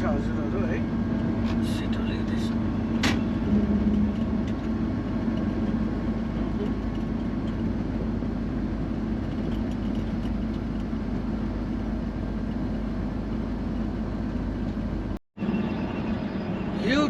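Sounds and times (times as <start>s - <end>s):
road noise: 0.0s - 17.0s
truck diesel engine droning: 0.0s - 17.0s.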